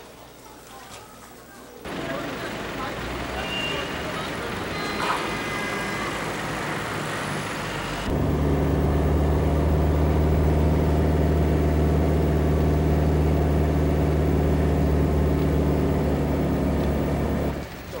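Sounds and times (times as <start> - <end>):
street traffic: 1.8 - 18.0
vehicle engine droning: 1.9 - 17.9.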